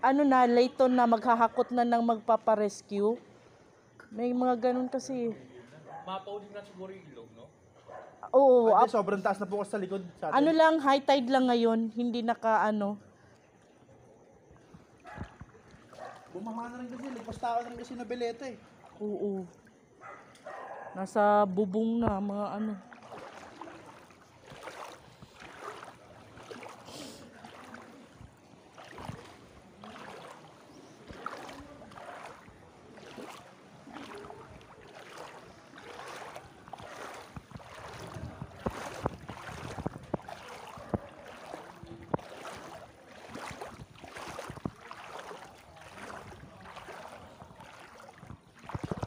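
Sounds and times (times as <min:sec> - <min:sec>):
water sloshing with footsteps: 0:00.0 - 0:49.0.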